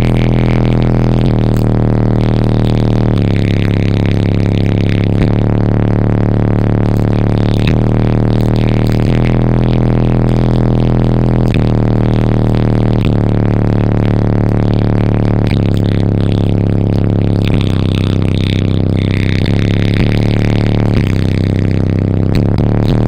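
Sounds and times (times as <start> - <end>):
loud deep subwoofer bass: 0.0 - 23.0.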